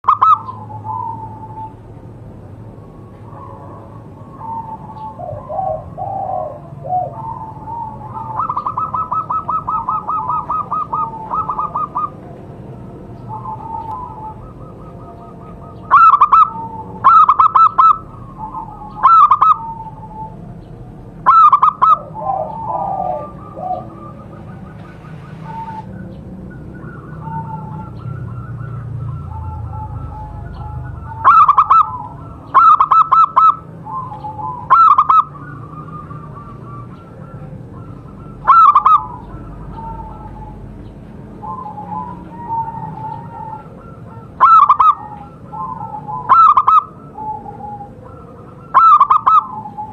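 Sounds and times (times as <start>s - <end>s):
doves cooing: 0.0s - 49.9s
loud distorted bird calls: 0.0s - 49.9s.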